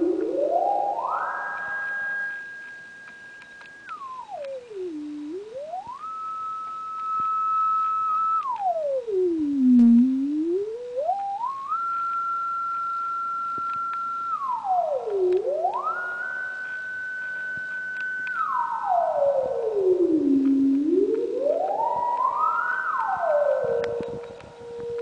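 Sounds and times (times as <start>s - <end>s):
sine tone sweeping in pitch: 0.0s - 25.0s.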